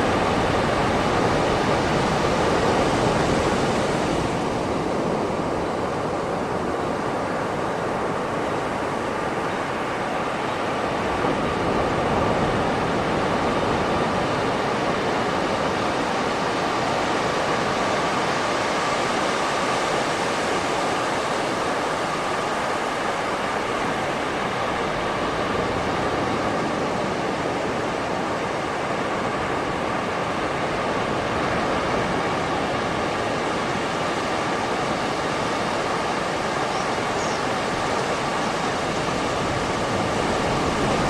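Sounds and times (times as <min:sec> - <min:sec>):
ocean surf on beach: 0:00.0 - 0:41.0.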